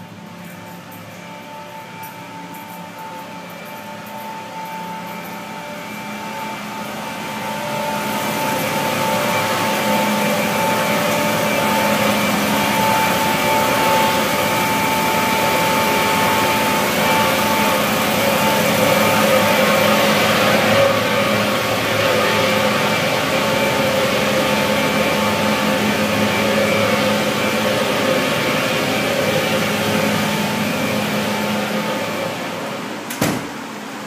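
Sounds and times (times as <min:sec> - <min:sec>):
machinery drone with high whine: 0:00.0 - 0:34.0.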